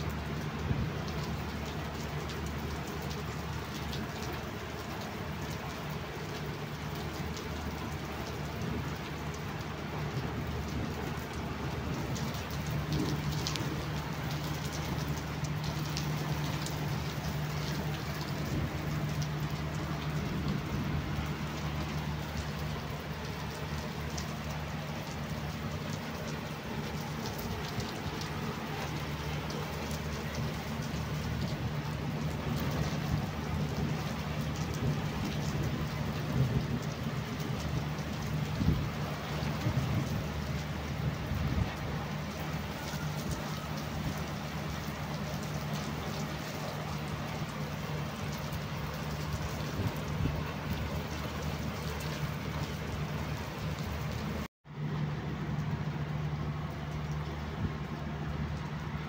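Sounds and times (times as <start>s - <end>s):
heavy rain on concrete roof: 0.0s - 59.0s.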